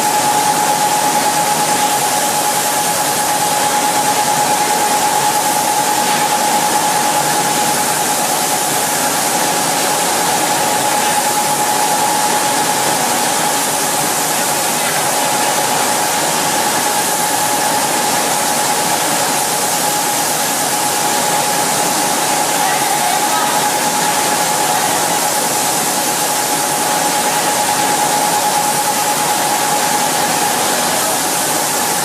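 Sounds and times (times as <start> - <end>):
spray booth rushing hiss: 0.0 - 32.0
steady whine: 0.0 - 32.0.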